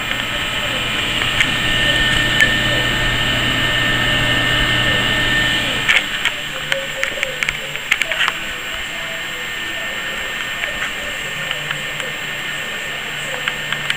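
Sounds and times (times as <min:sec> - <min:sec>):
computer fans whooshing: 0:00.0 - 0:13.9
low hum: 0:00.0 - 0:13.9.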